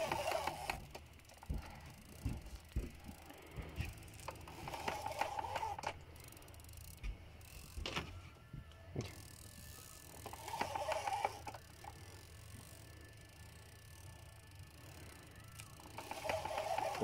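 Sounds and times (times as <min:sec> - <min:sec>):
fishing reel ratchet whirr: 0:00.0 - 0:08.2, 0:09.0 - 0:17.0.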